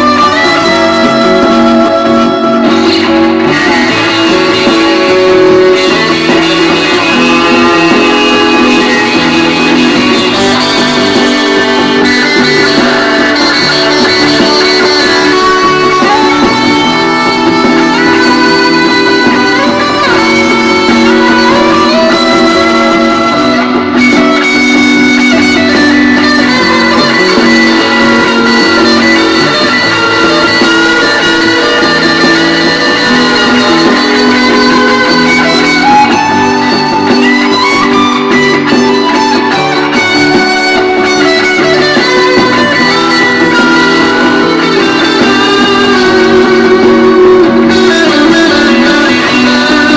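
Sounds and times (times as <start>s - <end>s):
electric guitar sustained notes: 0.0s - 49.9s
guitar slide: 0.0s - 49.9s.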